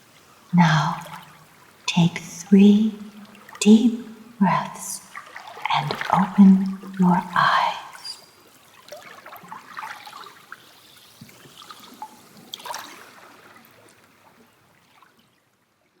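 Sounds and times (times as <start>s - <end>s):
water trickling and splashing: 0.0s - 15.4s.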